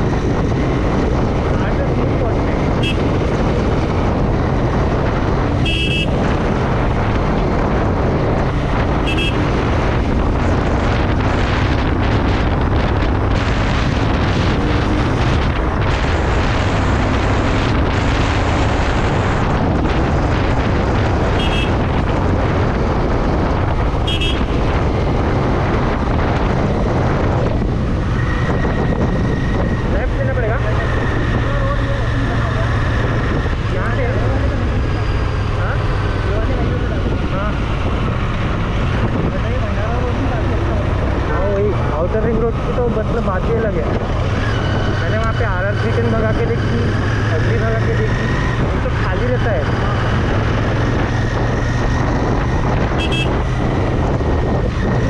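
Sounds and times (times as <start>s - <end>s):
wind noise on microphone: 0.0s - 55.0s.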